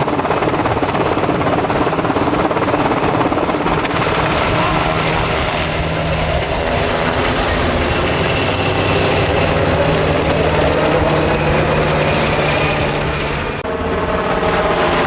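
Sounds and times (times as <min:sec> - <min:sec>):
helicopter rotor and engine noise: 0:00.0 - 0:15.0.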